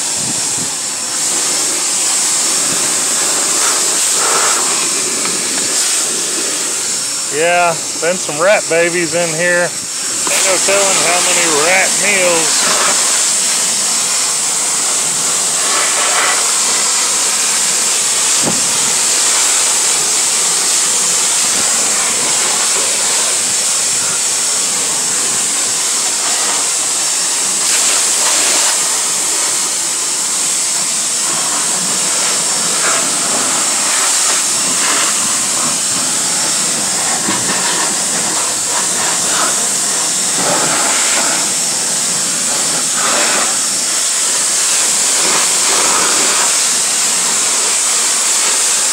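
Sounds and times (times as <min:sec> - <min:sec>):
pressure washer spraying: 0:00.0 - 0:48.9.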